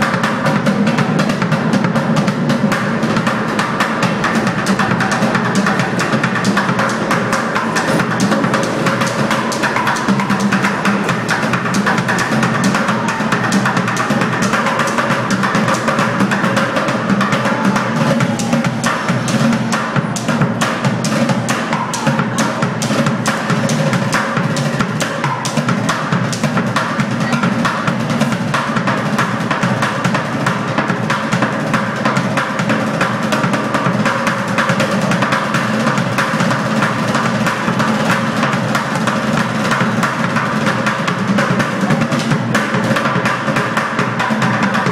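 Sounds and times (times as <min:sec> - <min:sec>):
bucket drumming with sticks: 0:00.0 - 0:44.9.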